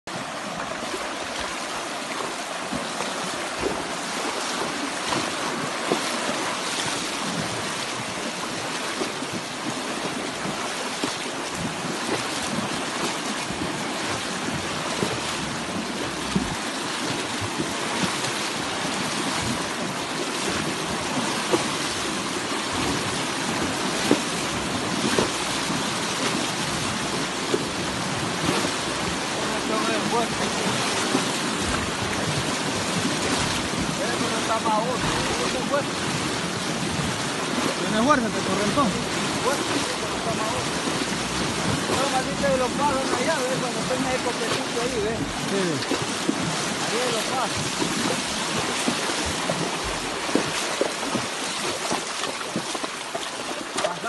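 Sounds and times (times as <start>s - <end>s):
horses wading through water: 0.0s - 54.0s
water rushing and splashing: 0.0s - 54.0s.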